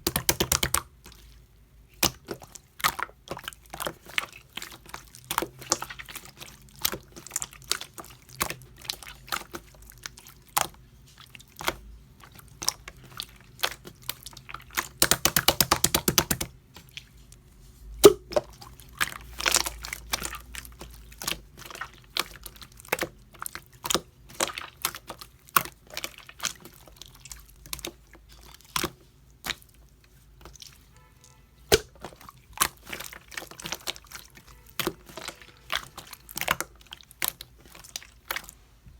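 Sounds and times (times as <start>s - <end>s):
slime squished by hand: 0.0s - 17.4s, 18.0s - 38.7s.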